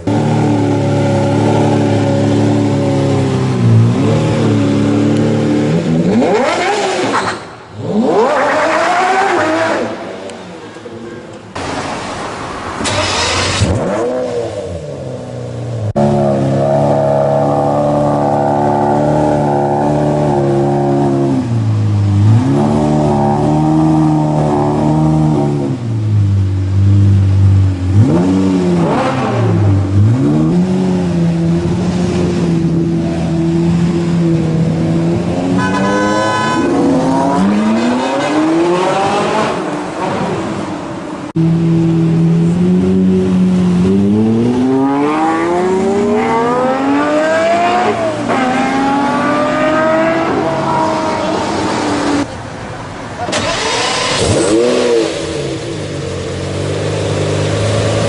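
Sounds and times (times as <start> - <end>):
sports car engines revving: 0.0 - 58.0.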